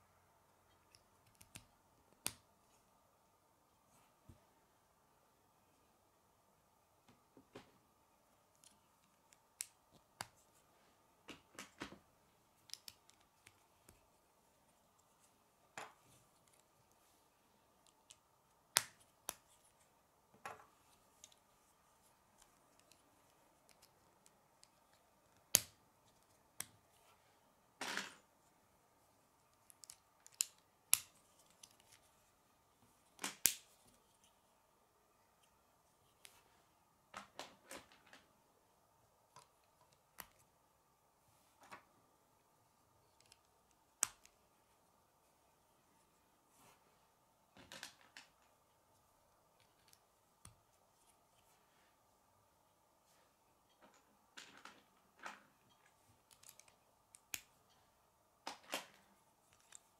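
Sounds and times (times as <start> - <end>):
faint high hum: 0.0 - 59.9.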